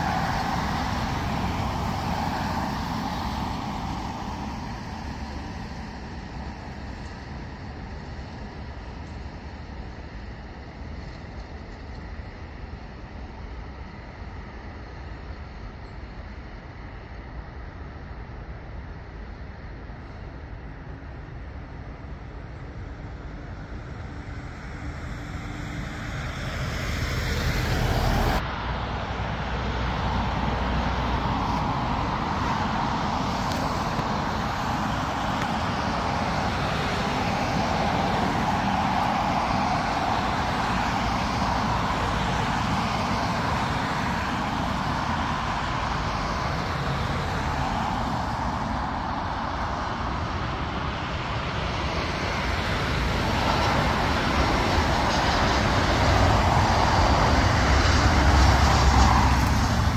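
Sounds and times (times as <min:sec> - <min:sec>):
jet airliner engines: 0:00.0 - 0:59.9.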